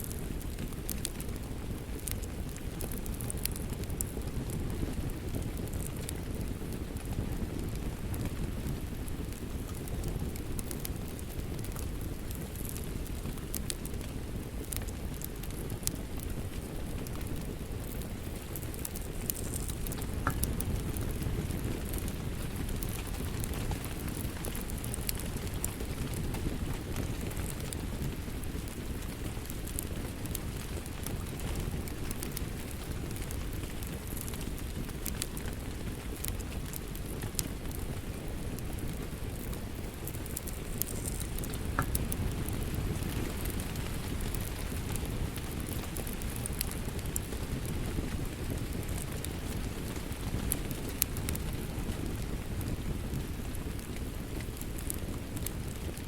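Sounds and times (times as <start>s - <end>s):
fire popping and crackling: 0.0s - 56.0s
low rumble of flames: 0.0s - 56.0s.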